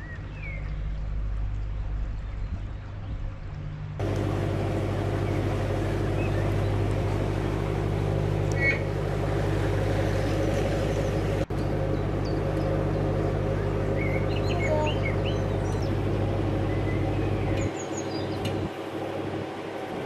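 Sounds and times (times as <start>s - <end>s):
boat engine throbbing: 0.0s - 20.0s.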